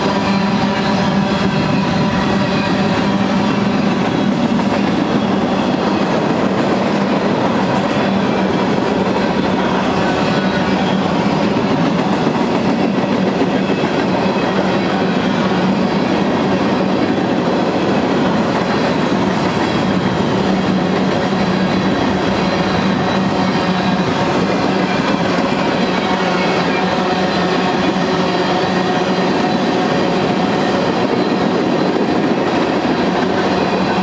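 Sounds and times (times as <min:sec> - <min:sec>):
train wheels rolling on rails: 0:00.0 - 0:34.0.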